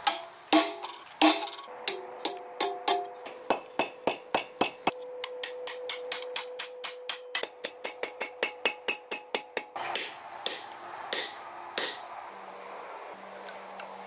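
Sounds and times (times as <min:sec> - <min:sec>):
hammer striking metal on anvil: 0:00.0 - 0:12.0.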